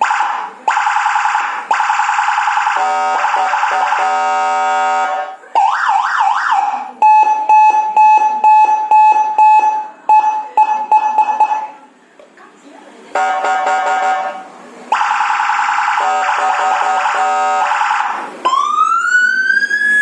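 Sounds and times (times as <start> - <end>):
electronic siren tones: 0.0 - 11.8, 14.9 - 20.0.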